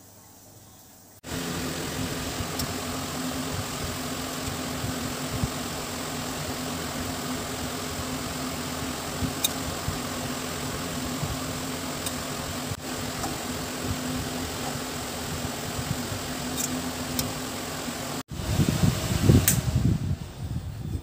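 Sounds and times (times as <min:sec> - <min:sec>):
small electric motor humming: 0:01.2 - 0:18.2.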